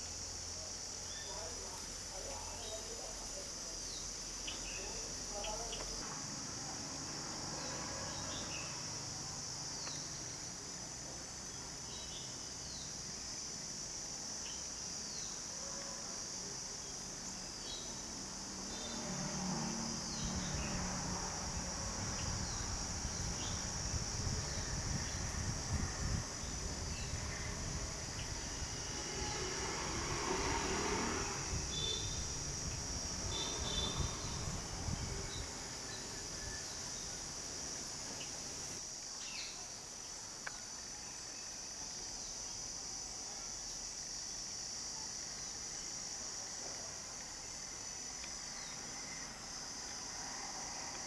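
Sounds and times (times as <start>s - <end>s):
insect chorus: 0.0s - 51.0s.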